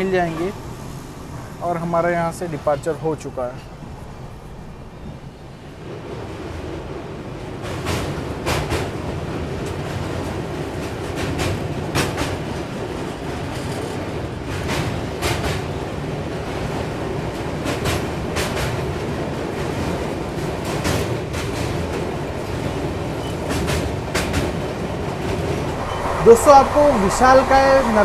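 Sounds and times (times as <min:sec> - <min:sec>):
train running on rails: 0:00.0 - 0:28.0.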